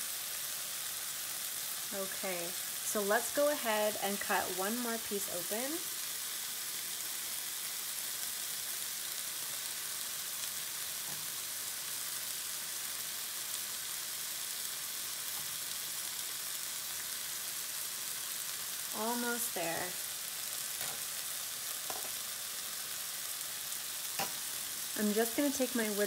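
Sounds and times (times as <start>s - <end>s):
chicken sizzling in a frying pan: 0.0s - 26.0s.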